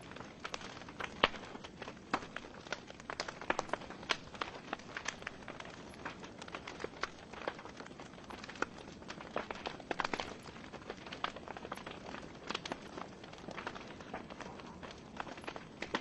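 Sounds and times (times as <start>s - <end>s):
logs crackling in fireplace: 0.0s - 16.0s.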